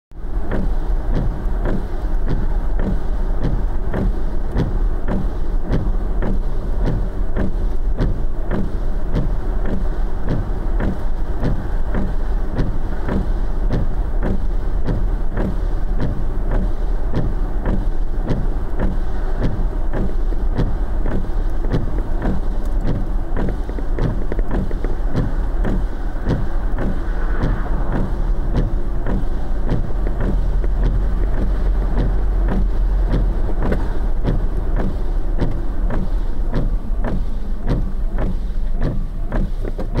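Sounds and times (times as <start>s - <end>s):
car rumbling on wet road: 0.1s - 40.0s.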